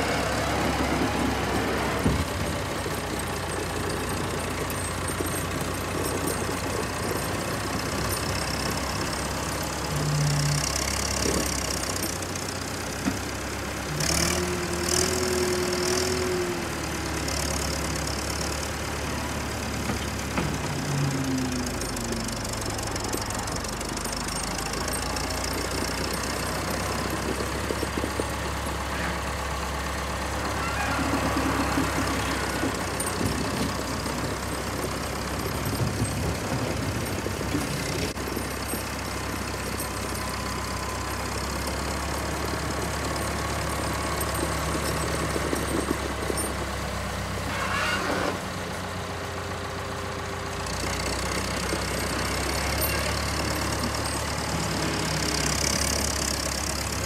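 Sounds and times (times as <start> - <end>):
diesel engine of wheel loader: 0.0 - 57.0.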